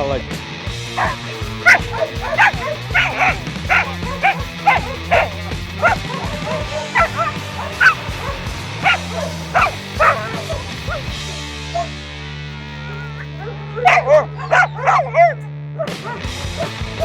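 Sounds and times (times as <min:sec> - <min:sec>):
music playing: 0:00.0 - 0:17.0
dog barking: 0:01.0 - 0:12.0, 0:13.2 - 0:17.0.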